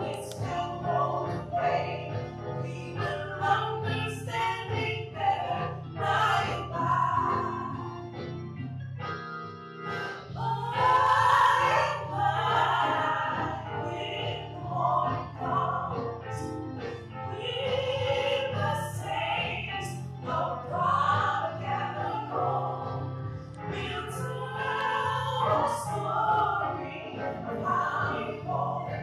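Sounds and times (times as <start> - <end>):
women singing in harmony: 0.0 - 8.0, 10.0 - 29.0.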